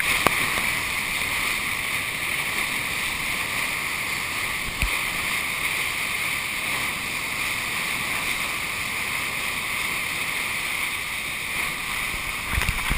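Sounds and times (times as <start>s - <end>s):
breaking whitewater rushing hiss: 0.0s - 12.9s.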